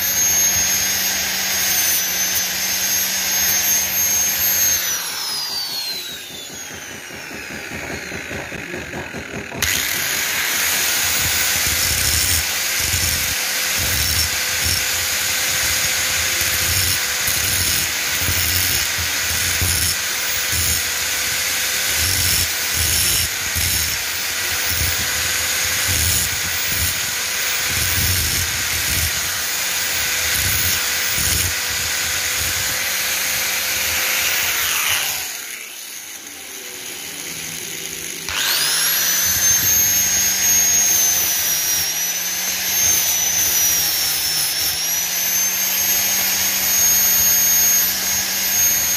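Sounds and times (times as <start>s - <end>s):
angle grinder grinding steel: 0.0s - 48.9s
grinder spinning down: 0.0s - 48.9s
second angle grinder whine: 0.0s - 48.9s.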